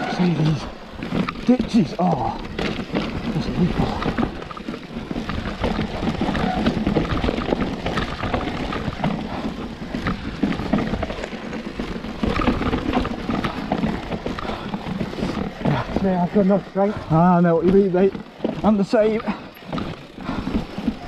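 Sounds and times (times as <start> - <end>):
mountain bike rattling on rocks: 0.0 - 21.0.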